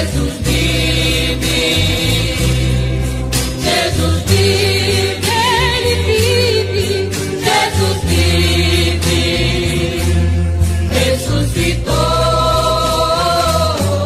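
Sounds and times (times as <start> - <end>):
choir singing long notes: 0.0 - 14.0
instrumental accompaniment with bass: 0.0 - 14.0.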